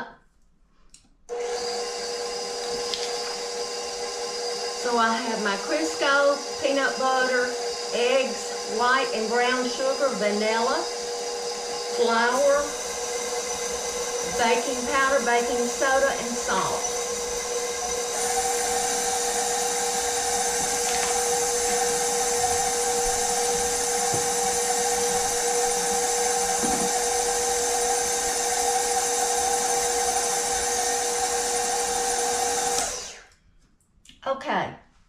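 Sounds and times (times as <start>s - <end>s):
stand mixer motor whine: 1.3s - 33.3s.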